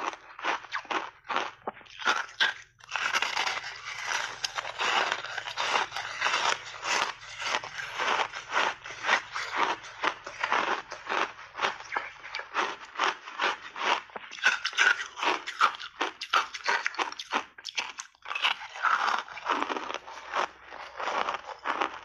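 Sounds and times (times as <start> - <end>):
ice being chewed: 0.0 - 22.0.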